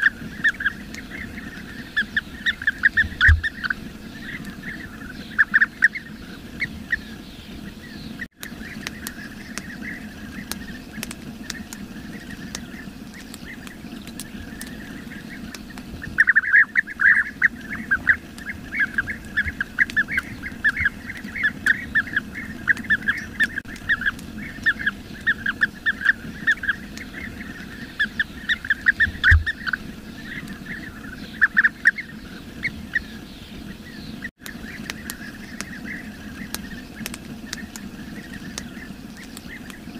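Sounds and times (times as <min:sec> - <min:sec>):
birds rolling chirps: 0:00.0 - 0:39.9.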